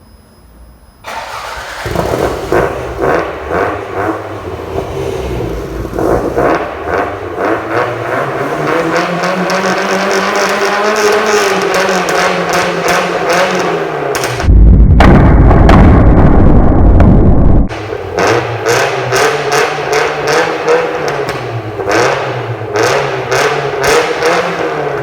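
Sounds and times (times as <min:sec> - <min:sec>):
car engine revving: 0:01.1 - 0:25.0.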